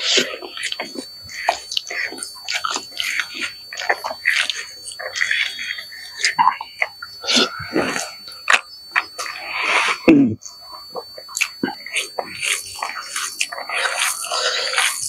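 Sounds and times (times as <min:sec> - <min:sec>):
man chewing wetly: 0:00.0 - 0:15.0.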